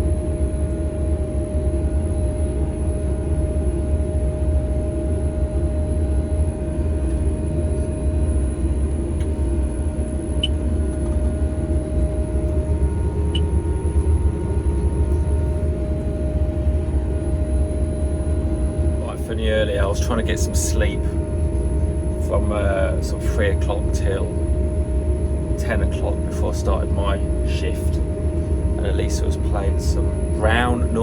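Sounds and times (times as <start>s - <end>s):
faint high whine: 0.0s - 31.0s
harvester engine drone in cab: 0.0s - 31.0s.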